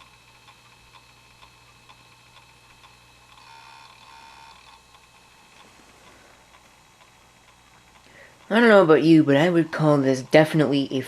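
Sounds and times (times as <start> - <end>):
hard drive clicking: 0.0 - 10.5.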